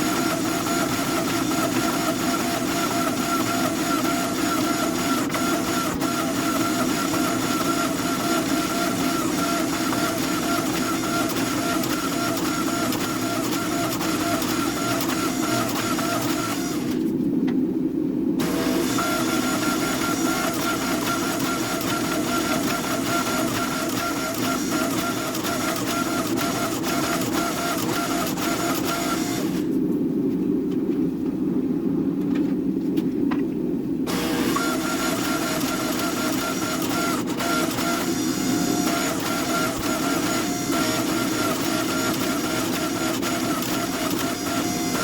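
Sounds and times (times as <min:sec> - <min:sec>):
machine whine: 0:00.0 - 0:17.2, 0:18.4 - 0:29.8, 0:34.1 - 0:45.0
workshop machine motor drone: 0:00.0 - 0:17.2, 0:18.4 - 0:29.8, 0:34.1 - 0:45.0.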